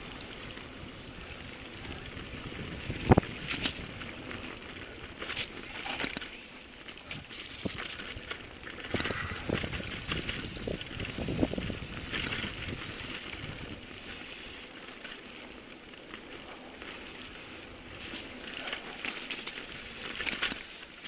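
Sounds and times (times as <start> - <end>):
bike rattling over bumps: 0.0 - 21.0
bike tyres crackling on dirt: 0.0 - 21.0.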